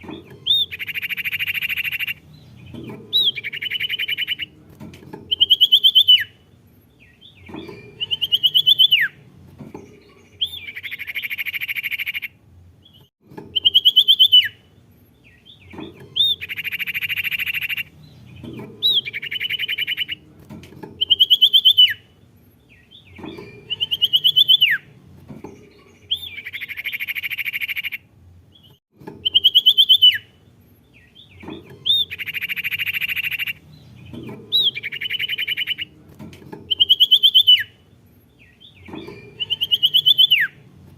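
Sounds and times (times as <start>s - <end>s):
buzzy bird chatter: 0.0s - 6.4s, 9.8s - 14.6s, 15.2s - 28.0s, 28.6s - 40.6s.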